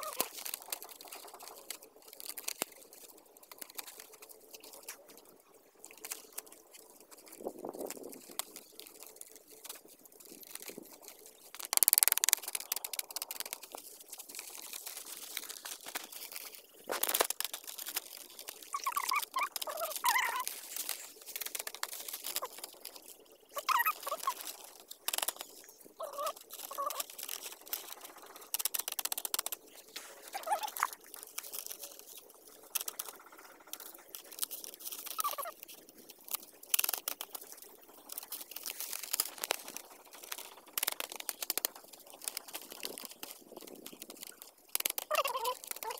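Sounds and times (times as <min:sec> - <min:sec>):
bamboo strips clicking and rustling: 0:00.0 - 0:45.9.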